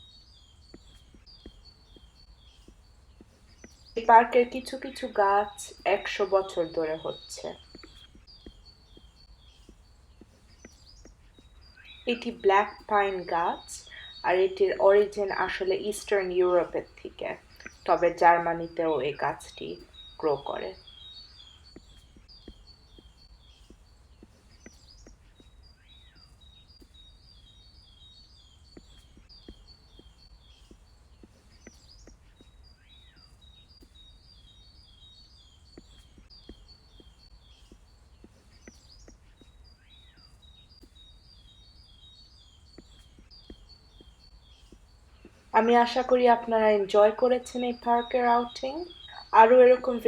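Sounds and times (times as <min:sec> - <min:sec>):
songbird singing: 0:00.0 - 0:50.0.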